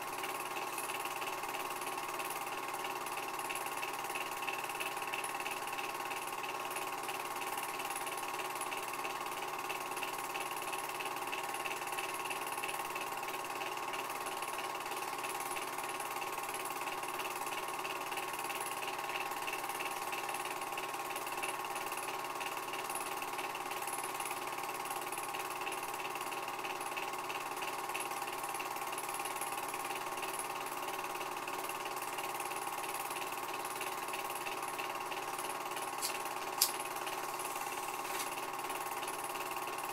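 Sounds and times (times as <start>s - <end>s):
movie projector whirring: 0.0s - 39.9s.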